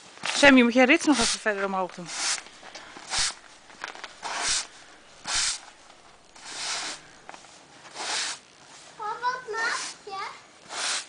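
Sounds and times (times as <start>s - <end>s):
shovel scraping snow on paving: 0.3s - 10.0s, 10.6s - 11.0s.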